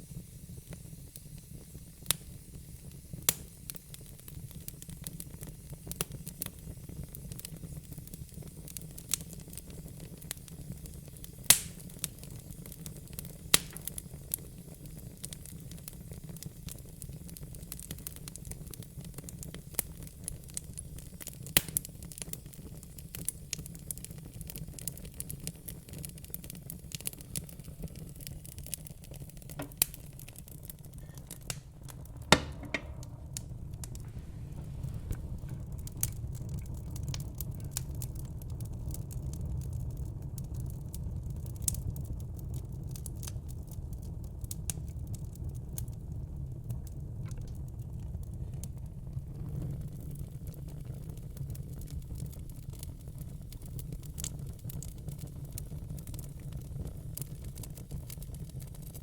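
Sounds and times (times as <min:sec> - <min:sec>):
loud snaps of fire: 0:00.0 - 0:59.0
low rumble of flames: 0:00.0 - 0:59.0
wood fire crackling and popping: 0:00.0 - 0:59.0.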